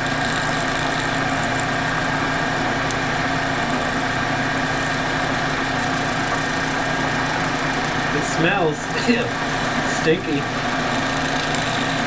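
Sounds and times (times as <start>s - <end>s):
end mill cutting battery: 0.0s - 12.0s
milling machine humming: 0.0s - 12.0s.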